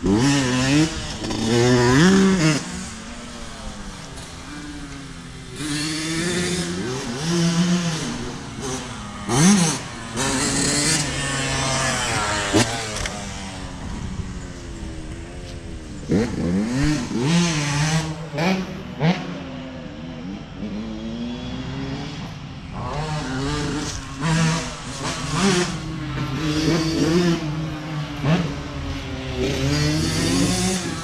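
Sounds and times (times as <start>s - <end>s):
two-stroke motorcycle revving: 0.0s - 31.0s.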